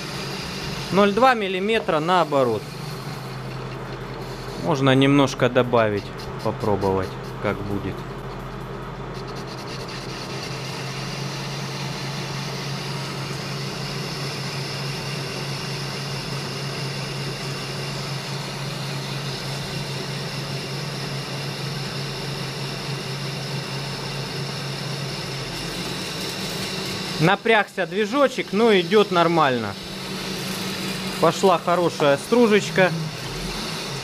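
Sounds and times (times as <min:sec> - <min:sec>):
lathe cutting steel bar: 0:00.0 - 0:08.1, 0:09.2 - 0:34.0
motor humming and straining: 0:00.0 - 0:34.0.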